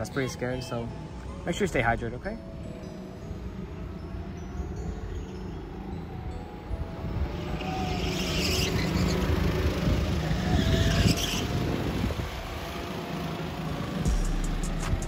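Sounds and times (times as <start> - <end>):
karts passing by: 0.0 - 15.0
go-kart engines running: 1.9 - 15.0.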